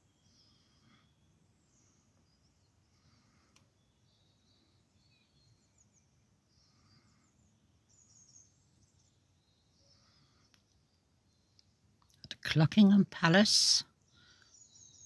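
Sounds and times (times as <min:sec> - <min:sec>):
faint songbird calls: 0:00.0 - 0:11.8, 0:13.8 - 0:15.0.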